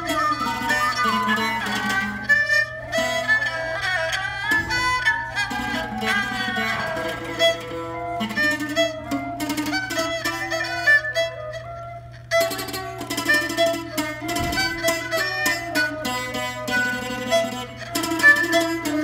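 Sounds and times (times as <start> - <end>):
bowed two-string fiddle: 0.0 - 19.0
plucked floor zither: 0.0 - 19.0.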